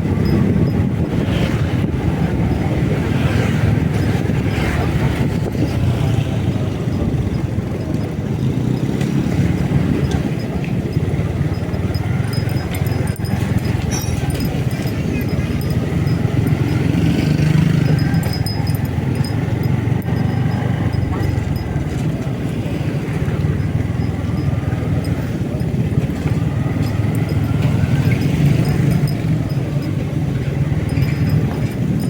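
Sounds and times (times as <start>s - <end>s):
motorcycle engine: 0.0s - 32.0s
road noise: 0.0s - 32.0s.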